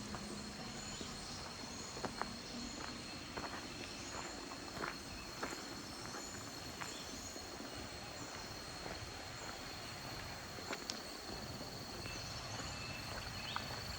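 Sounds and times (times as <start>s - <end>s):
insect droning: 0.0s - 13.9s.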